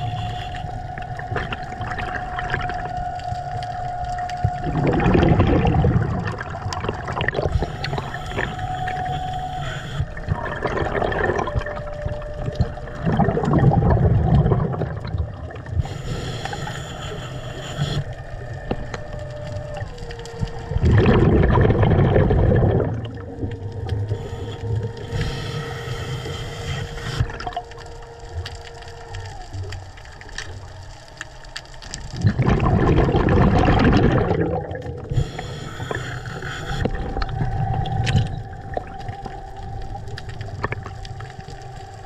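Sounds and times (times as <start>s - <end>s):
boat motor drone underwater: 0.0s - 42.0s
rushes of water: 0.0s - 42.0s.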